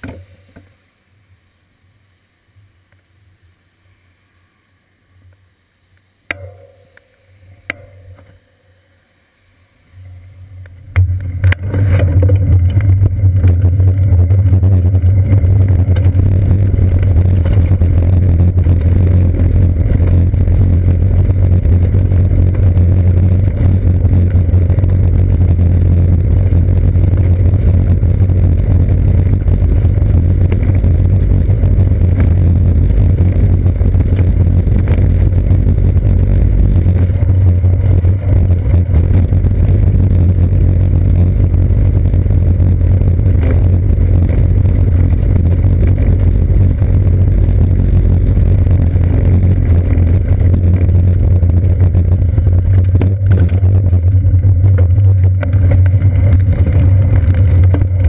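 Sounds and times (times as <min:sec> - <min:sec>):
bicycle rumbling over bricks: 0:10.7 - 0:58.0.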